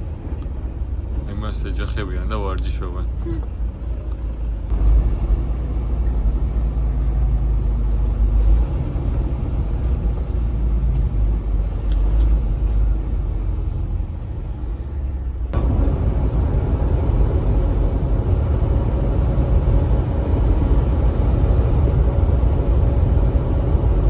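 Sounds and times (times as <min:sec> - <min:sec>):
truck engine and road drone: 0:00.0 - 0:24.0.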